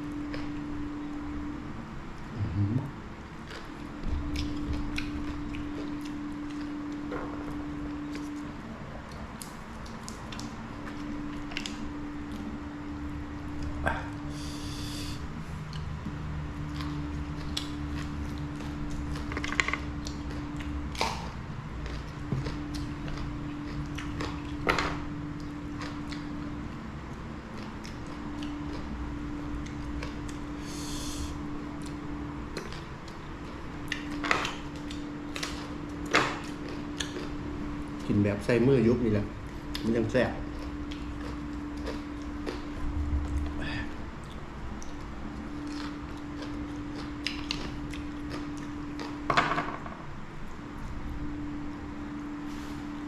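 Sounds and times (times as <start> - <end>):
steady low hum: 0.0 - 53.0
person chewing: 3.4 - 12.6, 13.3 - 38.1, 39.4 - 49.3.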